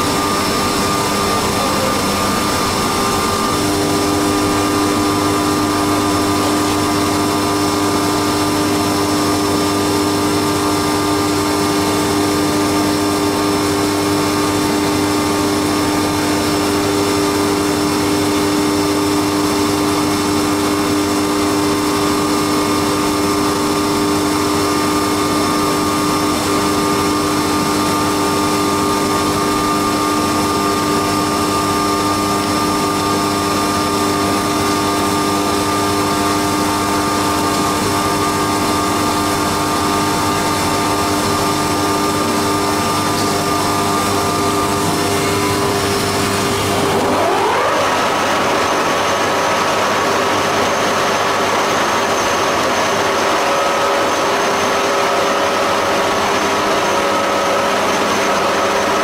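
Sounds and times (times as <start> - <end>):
milling machine whine: 0.0 - 59.0.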